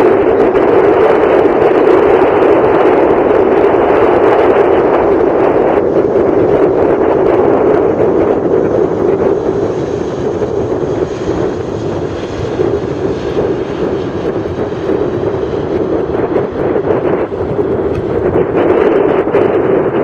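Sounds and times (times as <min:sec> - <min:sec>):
jet engines roaring at takeoff: 0:00.0 - 0:20.0.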